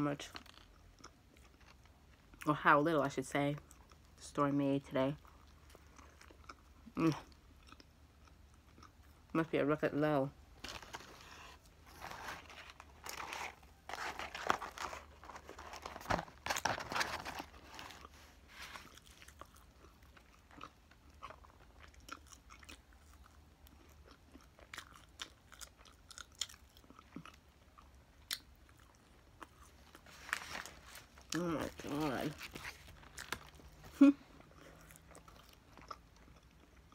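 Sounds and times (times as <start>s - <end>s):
chewing and crunching food: 0.0s - 9.4s, 10.2s - 36.9s.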